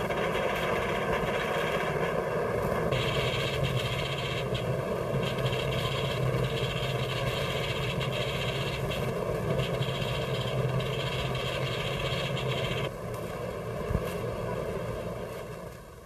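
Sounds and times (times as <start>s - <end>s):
low hum: 0.0s - 16.0s
steady hiss: 0.0s - 16.0s.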